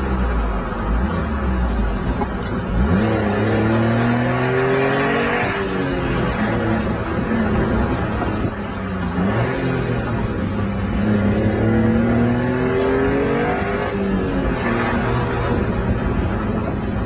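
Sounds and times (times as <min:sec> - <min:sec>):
car engine revving: 0:00.0 - 0:17.0
road noise rumble: 0:00.0 - 0:17.0.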